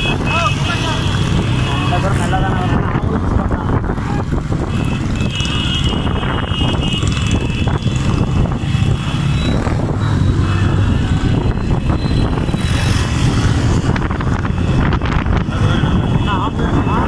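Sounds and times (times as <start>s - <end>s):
motorcycle engines running: 0.0s - 17.0s
rushing wind noise: 0.0s - 17.0s.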